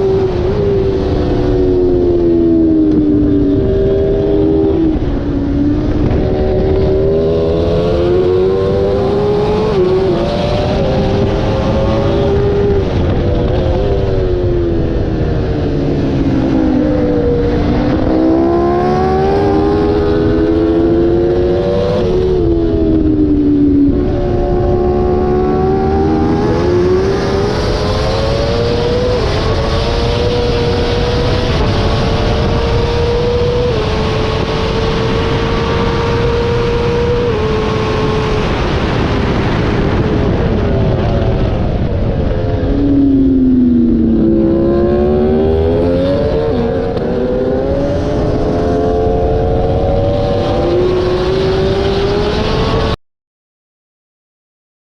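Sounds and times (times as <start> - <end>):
motorcycle engine at racing speed: 0.0 - 53.0
wind rushing: 0.0 - 53.0.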